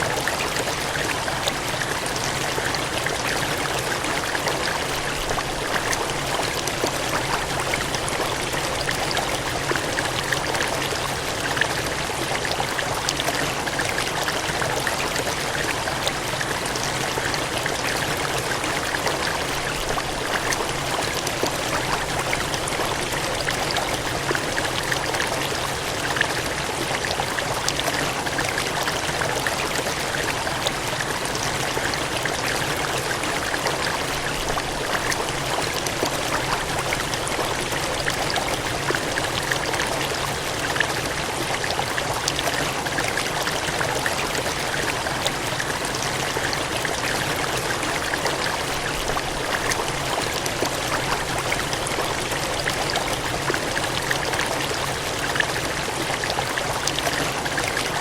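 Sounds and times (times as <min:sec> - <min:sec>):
water gushing: 0:00.0 - 0:58.0.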